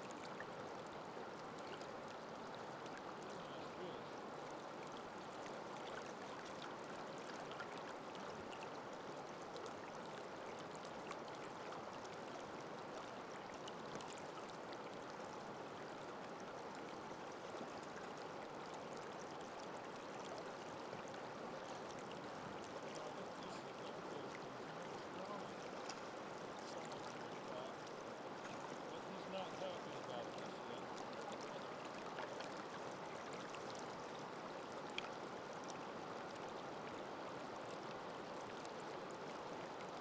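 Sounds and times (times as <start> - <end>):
creek water flowing: 0.0 - 40.0.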